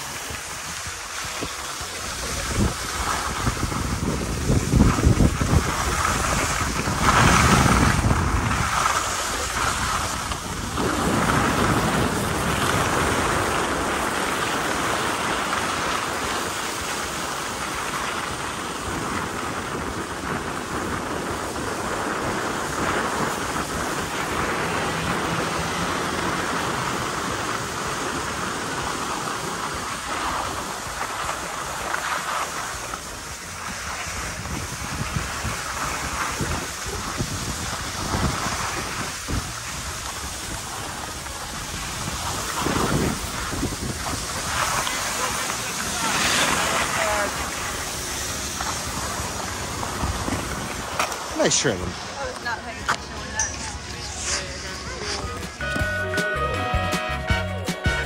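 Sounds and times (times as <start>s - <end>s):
wind buffeting microphone: 0.0s - 55.6s
skis scraping over snow: 0.0s - 56.4s.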